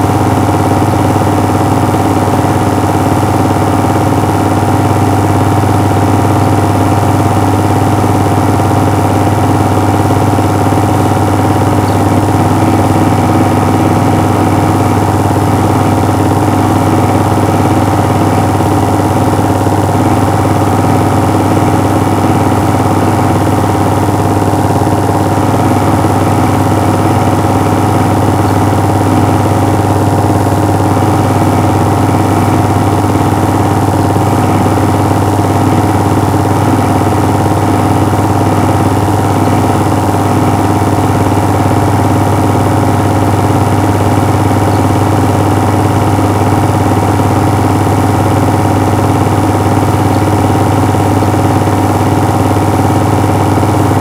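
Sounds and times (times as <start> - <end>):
film projector running: 0.0 - 54.0.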